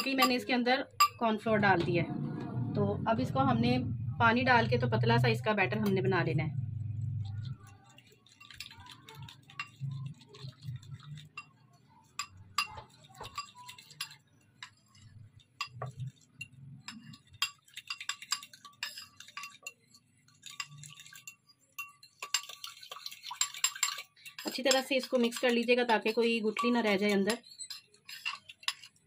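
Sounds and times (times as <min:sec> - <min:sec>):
spoon clinking against a bowl: 0:00.0 - 0:01.4, 0:06.8 - 0:29.0.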